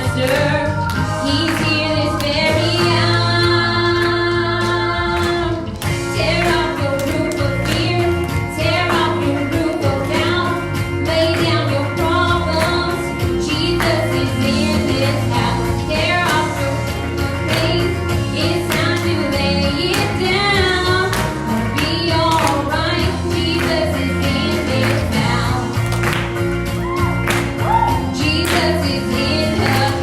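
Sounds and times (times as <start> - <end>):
band playing worship music: 0.0 - 30.0
woman singing: 0.0 - 30.0.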